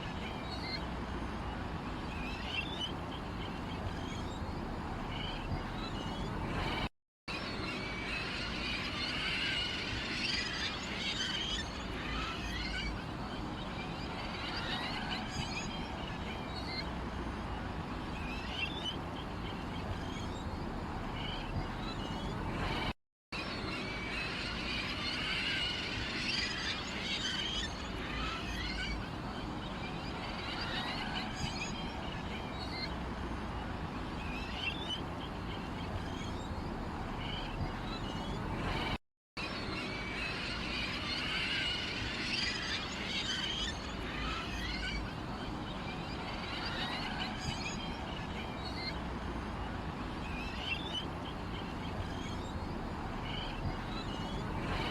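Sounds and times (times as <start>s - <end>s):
small birds chirping: 0.0s - 22.9s, 23.5s - 54.9s.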